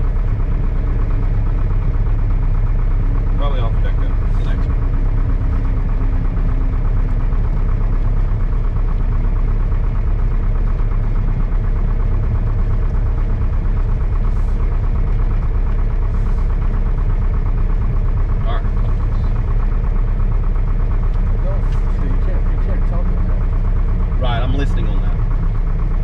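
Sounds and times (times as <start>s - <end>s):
airplane engine and propeller drone: 0.0s - 26.0s.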